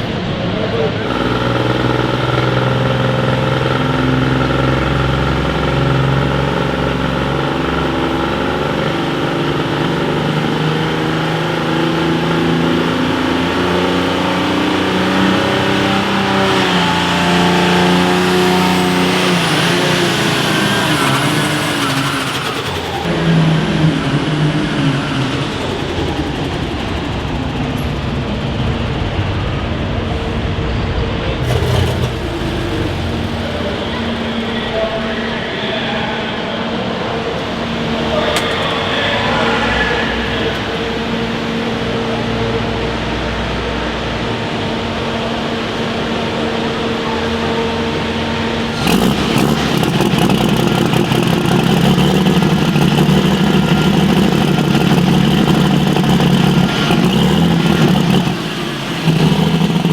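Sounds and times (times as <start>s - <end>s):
engine running at high revs: 0.0s - 59.9s.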